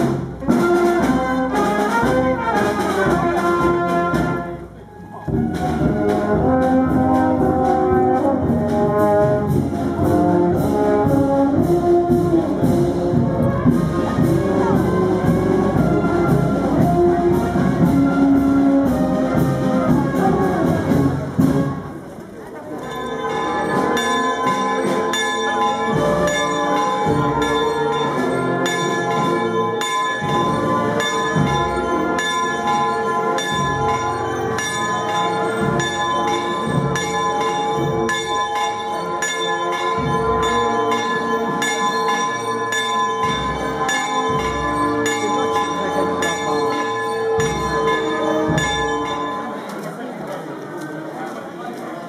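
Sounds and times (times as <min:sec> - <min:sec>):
church bells pealing: 0:00.0 - 0:21.6, 0:22.6 - 0:50.5.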